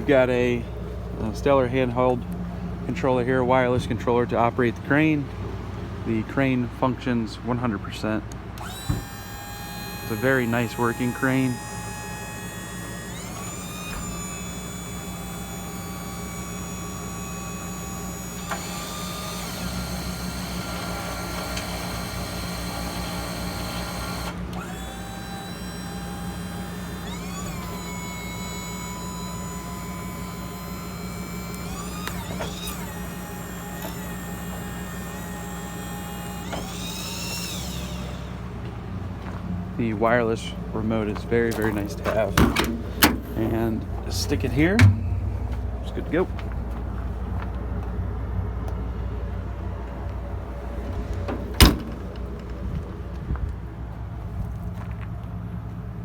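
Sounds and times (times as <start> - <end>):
crane motors whining: 0.0 - 6.3, 7.9 - 56.0
steady low hum: 0.0 - 56.0.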